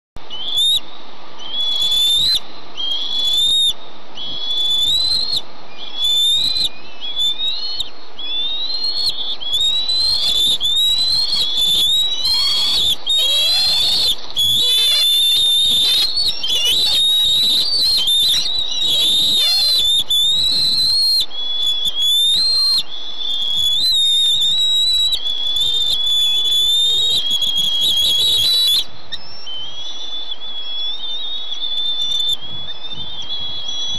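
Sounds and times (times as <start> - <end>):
eaglets whistled begging calls: 0.3 - 33.9.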